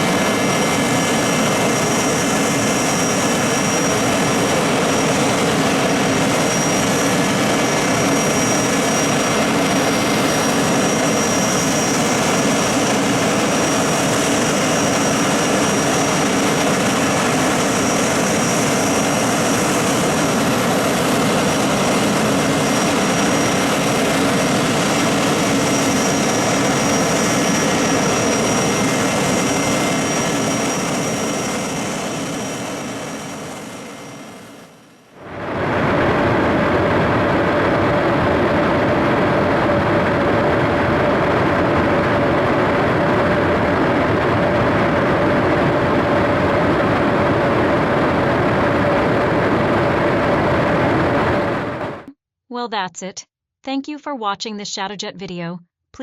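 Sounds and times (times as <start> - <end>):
jet engine running with whine: 0.0 - 52.2.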